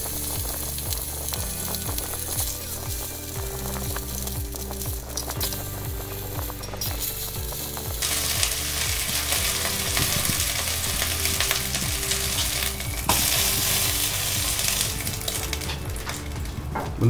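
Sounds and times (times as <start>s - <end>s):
meat sizzling in hot oil: 0.0s - 16.7s.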